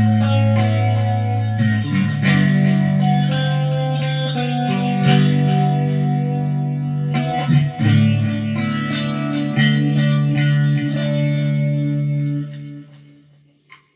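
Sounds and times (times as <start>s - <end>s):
guitar with echo effect: 0.0s - 13.9s.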